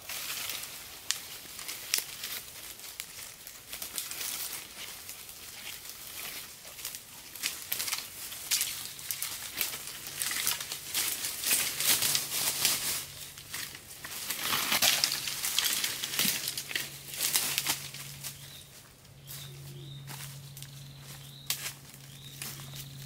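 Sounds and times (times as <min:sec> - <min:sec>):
dry bamboo and leaves rustling: 0:00.0 - 0:23.0
footsteps on dry leaves: 0:00.0 - 0:23.0.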